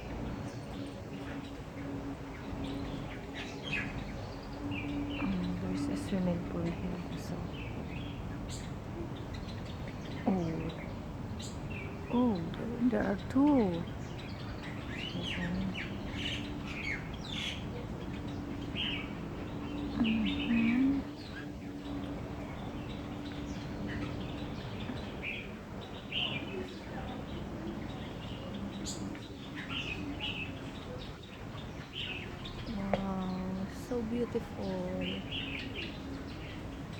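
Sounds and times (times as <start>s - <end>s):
small birds chirping: 0.0s - 36.9s
steady low hum: 0.0s - 36.9s.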